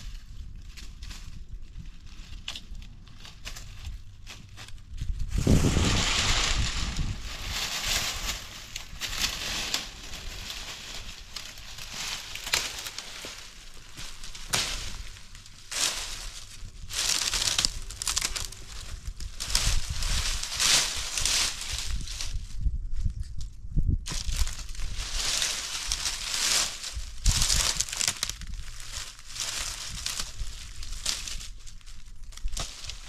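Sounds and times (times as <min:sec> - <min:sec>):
dry leaves and branches crunching: 0:00.0 - 0:33.0.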